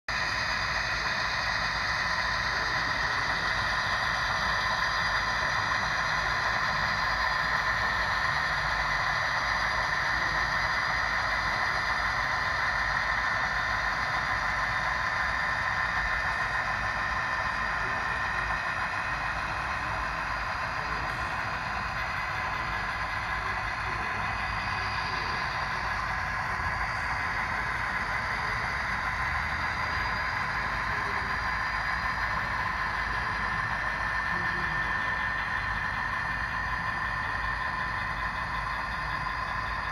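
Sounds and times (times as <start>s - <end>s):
high whine: 0.1s - 39.9s
model train hum: 0.1s - 39.9s.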